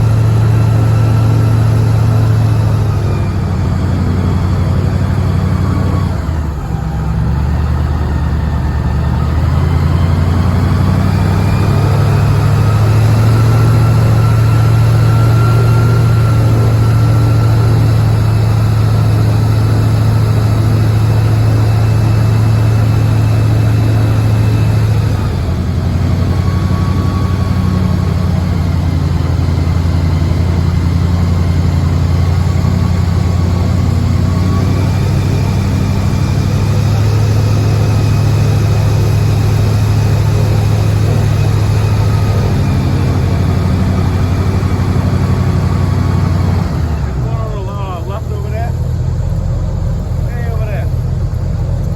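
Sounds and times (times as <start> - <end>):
boat motor running: 0.0 - 51.9.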